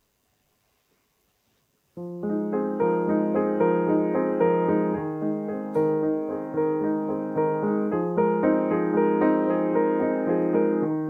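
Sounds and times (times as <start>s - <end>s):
grand piano playing: 2.0s - 11.0s.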